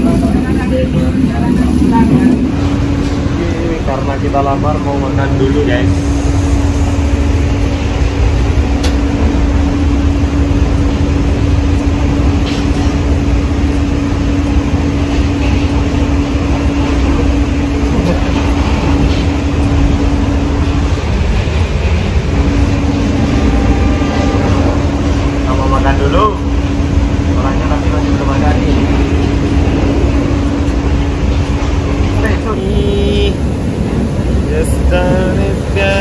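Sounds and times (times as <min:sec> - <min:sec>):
constant hum: 0:00.0 - 0:36.0
train running rumble: 0:00.0 - 0:36.0.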